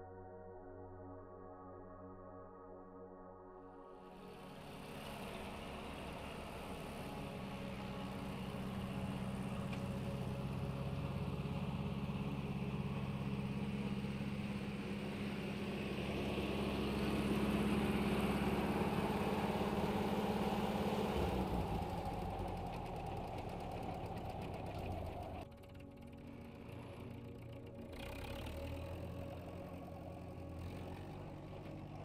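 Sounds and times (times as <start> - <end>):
tractor engine running: 4.1 - 32.0.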